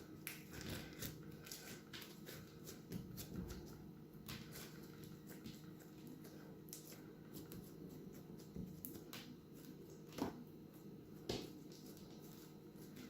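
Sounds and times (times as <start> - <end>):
crunchy slime crackling: 0.0 - 13.0.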